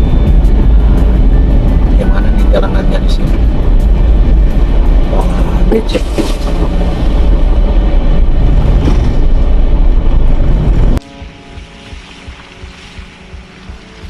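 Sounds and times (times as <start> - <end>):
van engine and road rumble: 0.0 - 14.0.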